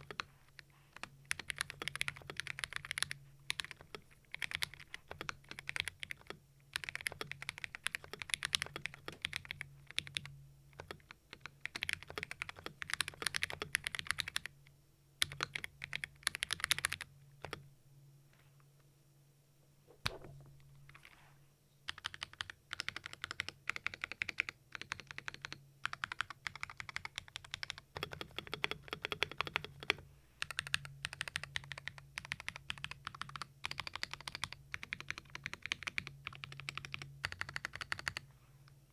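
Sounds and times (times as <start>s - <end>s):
mechanical keyboard typing: 0.0s - 0.3s, 1.0s - 14.5s, 15.2s - 17.6s, 21.9s - 38.2s.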